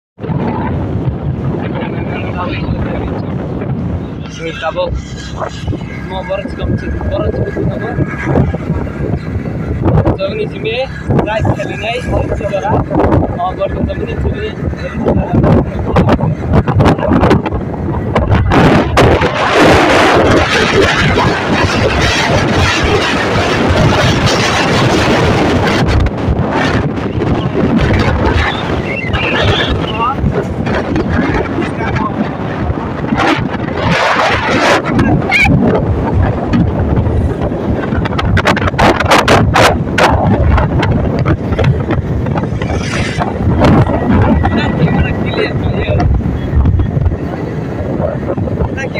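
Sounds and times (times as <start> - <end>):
road noise: 0.2 - 48.9
wind buffeting microphone: 0.2 - 48.9.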